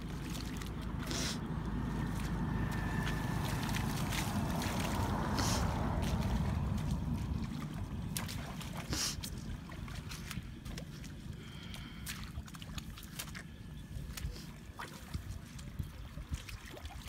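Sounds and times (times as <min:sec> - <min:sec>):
wind rumble on microphone: 0:00.0 - 0:11.6, 0:13.5 - 0:17.0.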